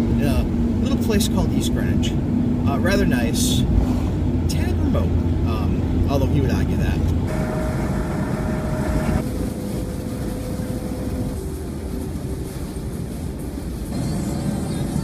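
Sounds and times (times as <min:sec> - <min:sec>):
car road noise: 0:00.0 - 0:15.0
faint hum: 0:00.0 - 0:15.0.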